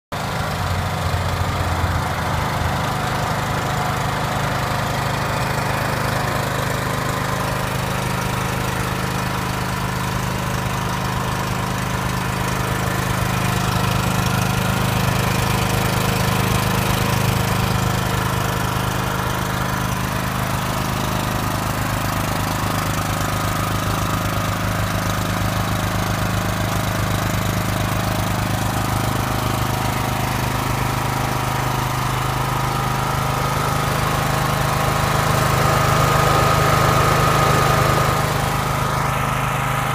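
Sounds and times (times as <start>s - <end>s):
generator engine running: 0.1s - 39.9s.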